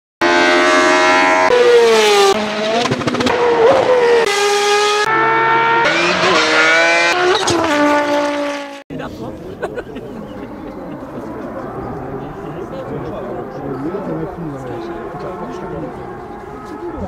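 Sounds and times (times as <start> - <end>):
racing car engines revving: 0.2 - 17.0.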